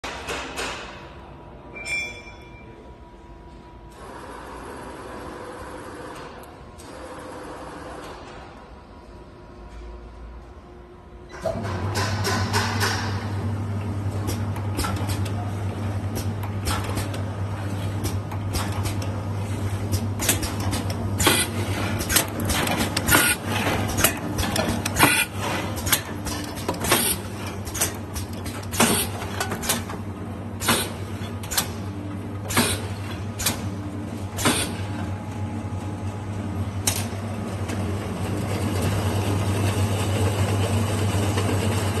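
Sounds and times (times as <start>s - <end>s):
machine motor hum: 3.5s - 42.0s.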